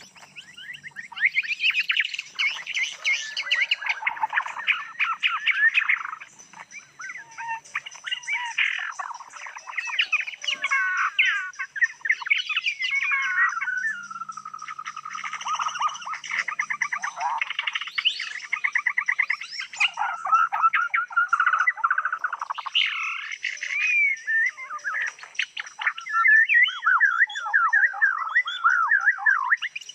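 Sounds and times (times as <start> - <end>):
songbird singing trills: 0.0 - 29.9.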